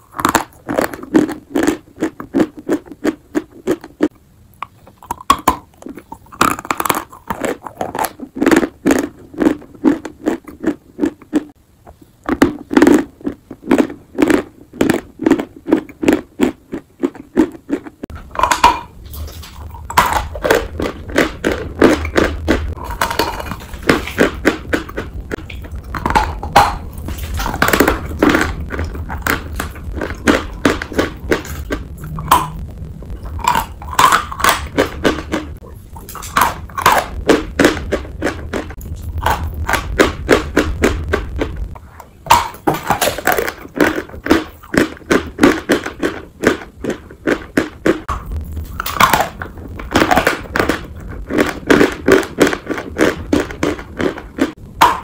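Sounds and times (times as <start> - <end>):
chewing and crunching chalk: 0.0 - 55.0
steady low hum: 0.0 - 55.0.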